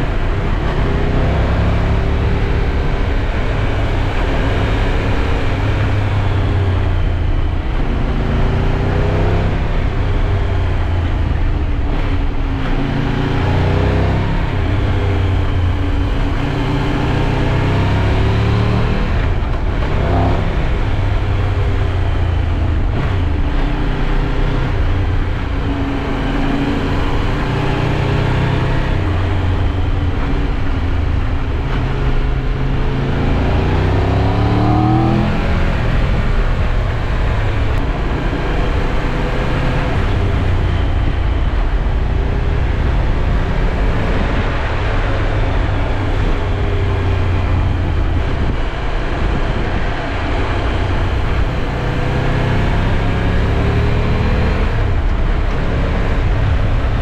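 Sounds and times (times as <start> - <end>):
motorcycle engine accelerating: 0.0 - 57.0
road and wind noise: 0.0 - 57.0.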